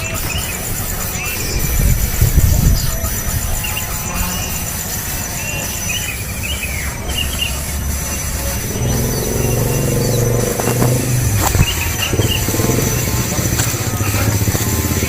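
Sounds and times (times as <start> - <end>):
engine low rumble: 0.0 - 4.3, 6.2 - 15.0
high bird chirps: 0.0 - 15.0.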